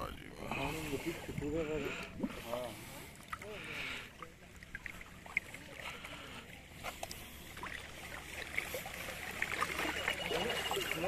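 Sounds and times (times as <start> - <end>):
faint voices: 0.0 - 11.0
river water sloshing: 0.5 - 11.0
small splashes and drips: 1.9 - 11.0.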